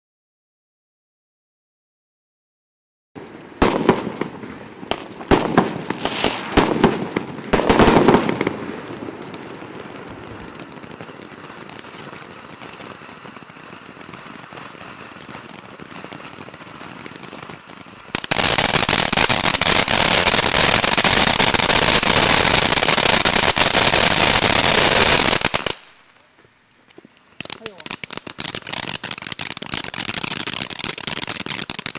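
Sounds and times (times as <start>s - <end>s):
firework pops and crackles: 3.2s - 31.9s
firework fountain sparks hissing: 3.3s - 26.1s, 27.1s - 31.9s.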